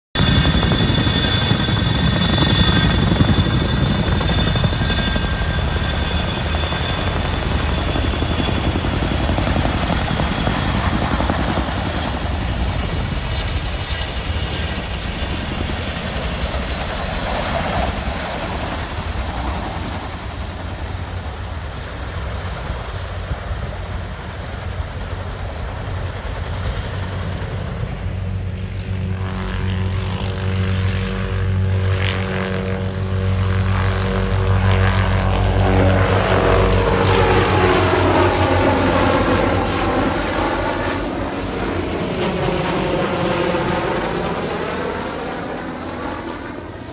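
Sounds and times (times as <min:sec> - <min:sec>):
helicopter rotor blades beating: 0:00.2 - 0:46.9
turbine engines rushing: 0:00.2 - 0:46.9.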